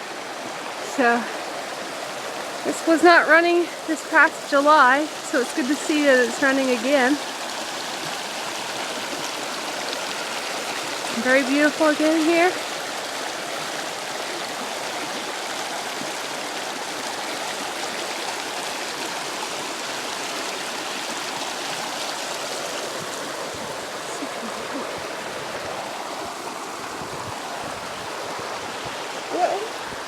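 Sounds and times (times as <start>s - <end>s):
mountain stream rushing: 0.0s - 30.0s.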